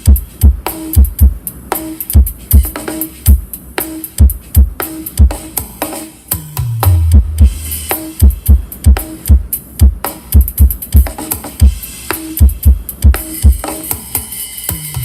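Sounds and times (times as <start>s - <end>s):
bass-heavy electronic dance music: 0.0s - 14.2s.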